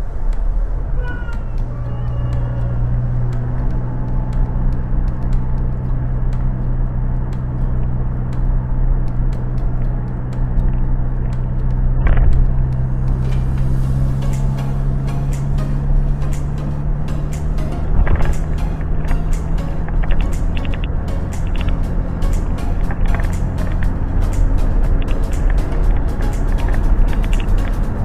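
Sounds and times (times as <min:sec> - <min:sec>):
motor vehicle engine running: 0:00.0 - 0:28.0.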